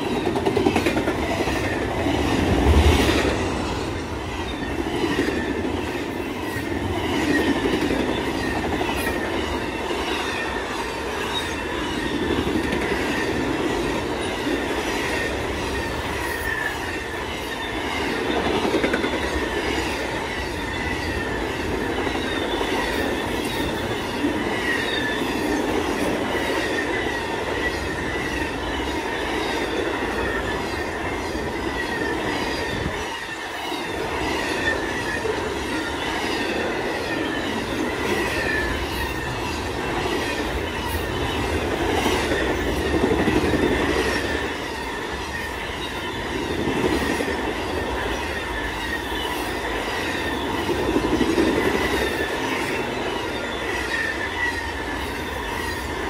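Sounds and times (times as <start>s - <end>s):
freight train passing: 0.0s - 56.0s
steel wheels rumbling on rail: 0.0s - 56.0s.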